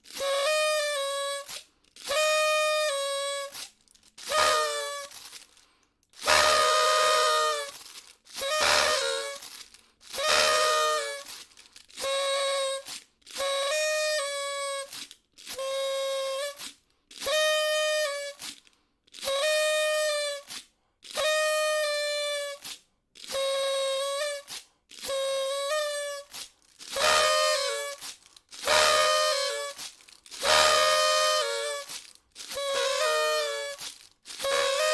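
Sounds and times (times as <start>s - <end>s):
party horn blasts: 0.0s - 5.6s, 6.2s - 18.5s, 19.2s - 34.9s.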